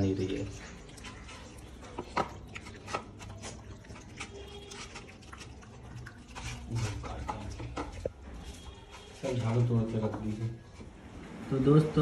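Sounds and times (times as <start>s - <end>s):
puppy chewing and lapping: 0.0s - 10.7s.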